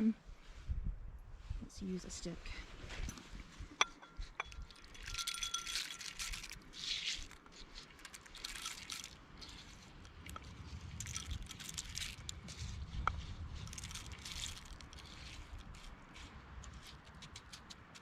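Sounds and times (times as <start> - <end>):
birdseed rattling and scraping: 2.9 - 18.0.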